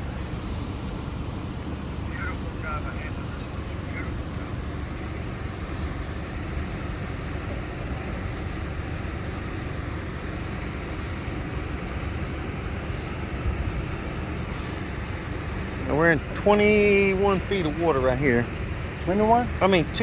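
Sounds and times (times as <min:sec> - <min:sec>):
boat motor rumbling: 0:00.0 - 0:20.0.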